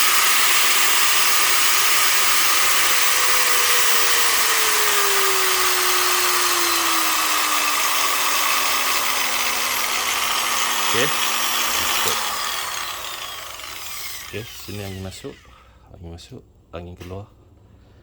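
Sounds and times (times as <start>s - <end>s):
angle grinder running: 0.0s - 15.6s.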